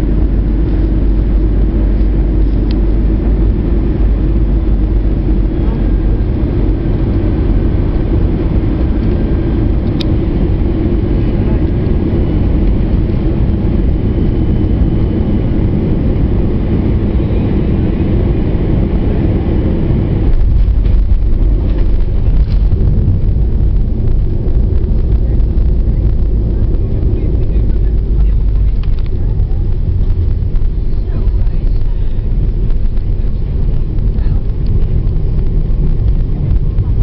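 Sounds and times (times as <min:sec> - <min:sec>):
jet engine cabin rumble: 0:00.0 - 0:37.0.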